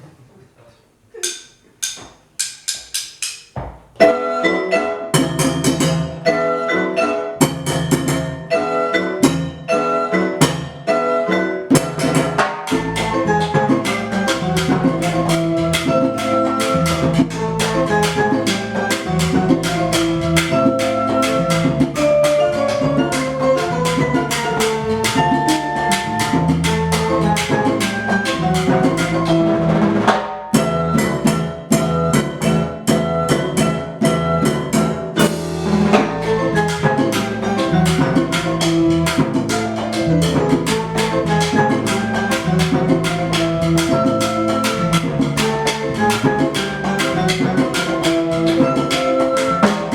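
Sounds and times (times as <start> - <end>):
percussion ensemble drumming: 1.2 - 4.2, 5.1 - 6.4, 7.4 - 11.1, 11.7 - 49.9
melodic pitched percussion notes: 1.2 - 49.9.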